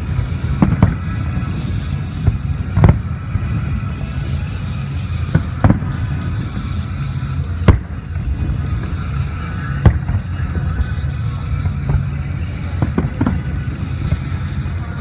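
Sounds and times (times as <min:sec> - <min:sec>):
fireworks booming: 0:00.0 - 0:15.0
steady low rumble: 0:00.0 - 0:15.0.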